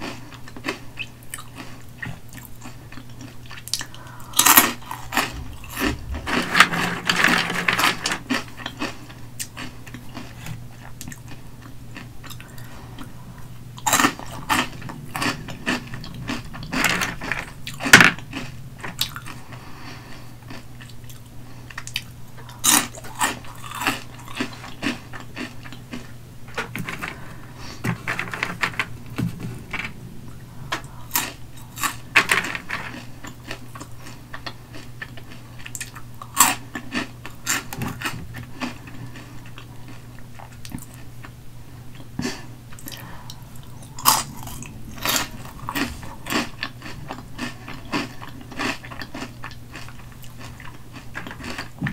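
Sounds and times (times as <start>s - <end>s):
crunchy snack chewing: 0.0s - 29.0s, 30.5s - 41.4s, 42.0s - 51.9s
faint low hum: 0.0s - 51.9s.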